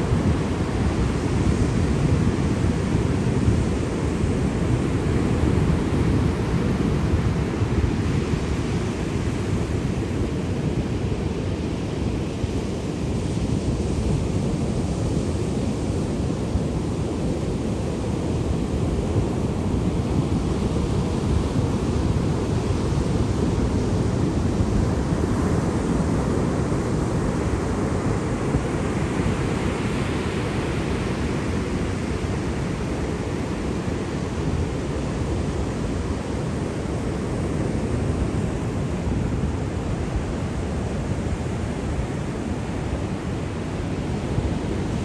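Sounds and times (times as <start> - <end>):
waves washing in: 0.0 - 45.0.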